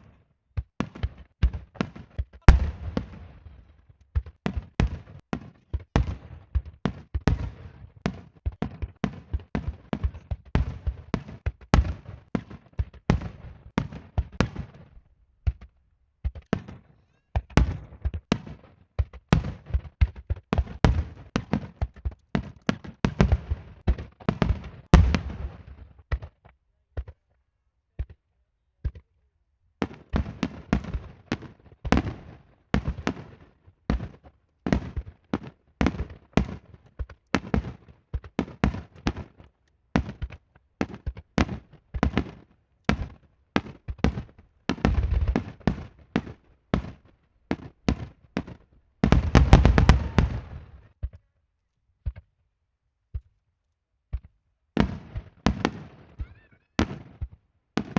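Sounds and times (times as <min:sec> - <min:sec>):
fireworks bursting with sharp bangs: 0:00.0 - 0:27.3, 0:29.8 - 0:51.2, 0:54.1 - 0:57.9.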